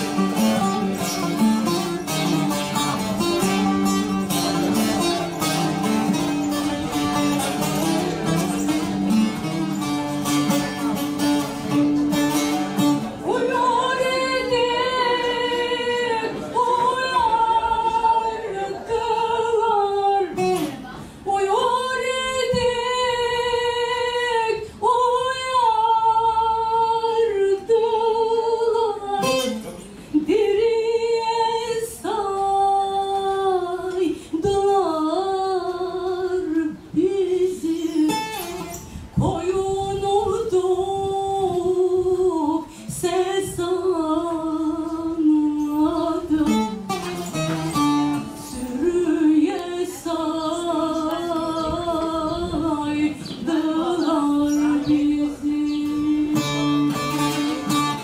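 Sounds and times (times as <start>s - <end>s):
plucked long-necked lute: 0.0s - 58.0s
woman singing folk song: 0.0s - 58.0s.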